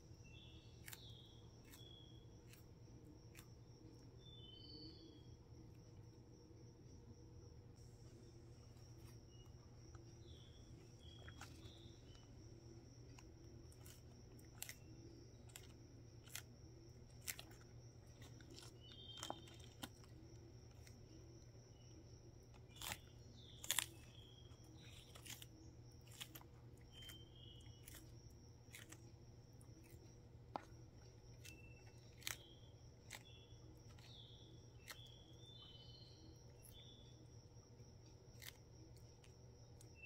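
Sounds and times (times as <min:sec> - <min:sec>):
low steady hum: 0:00.0 - 0:40.0
tortoise crunching lettuce: 0:00.0 - 0:40.0.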